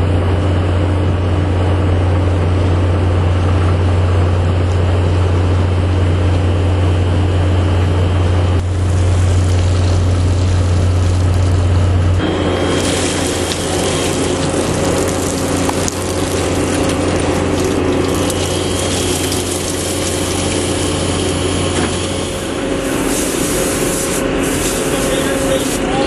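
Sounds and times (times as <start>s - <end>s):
low machinery hum: 0.0s - 26.0s
winch hauling: 1.5s - 26.0s.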